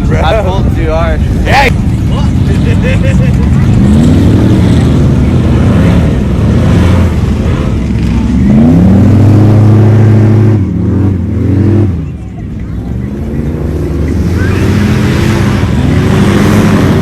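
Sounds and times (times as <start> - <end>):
vehicle engine revving hard: 2.4 - 12.0, 13.0 - 17.0.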